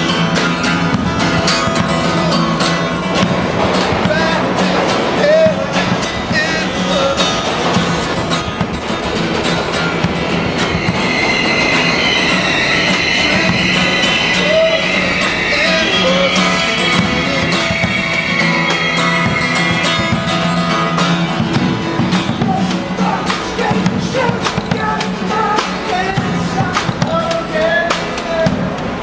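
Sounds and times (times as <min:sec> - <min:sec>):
live guitar music: 0:00.0 - 0:29.0
train wheels screeching: 0:00.0 - 0:29.0.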